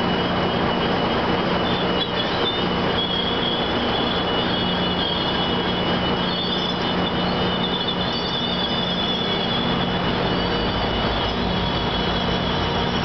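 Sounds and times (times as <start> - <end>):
diesel locomotive engine drone: 0.0 - 13.0
wheels squealing: 0.0 - 13.0.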